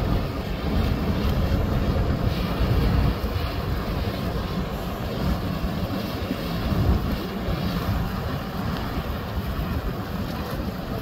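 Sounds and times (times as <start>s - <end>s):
propeller churning through ice: 0.0s - 11.0s
tugboat engine rumbling: 0.0s - 11.0s.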